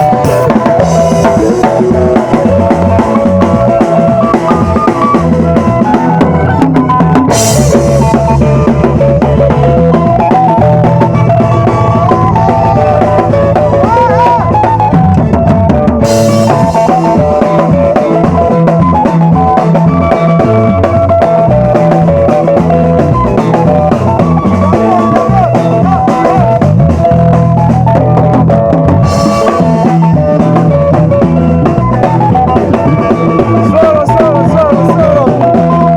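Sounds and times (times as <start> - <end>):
band music with drum beat: 0.0 - 35.9
bass line: 0.0 - 35.9
lead melody sliding down: 0.0 - 35.9.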